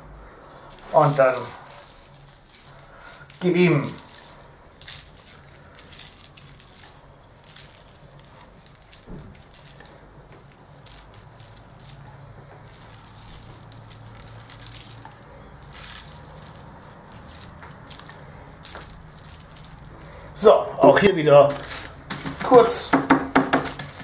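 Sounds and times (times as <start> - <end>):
spice rub pattering: 0.5 - 24.0
paper crinkling and rustling: 0.6 - 24.0.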